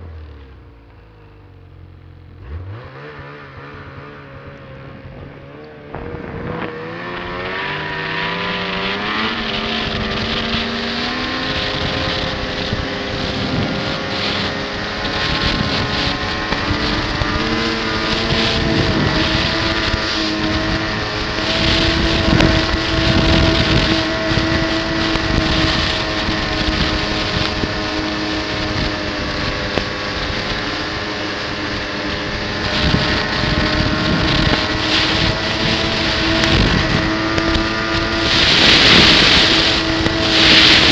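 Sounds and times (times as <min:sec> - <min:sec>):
snowmobile engine accelerating: 0:00.0 - 0:40.9.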